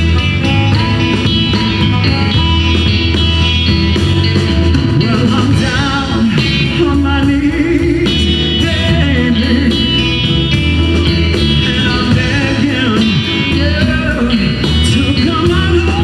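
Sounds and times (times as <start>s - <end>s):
man singing: 0.0s - 3.2s, 4.7s - 16.0s
blues band playing: 0.0s - 16.0s.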